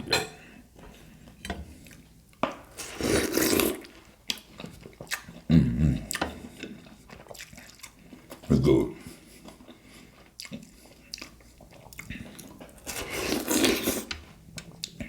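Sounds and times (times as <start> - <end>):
chewing: 2.8 - 15.0.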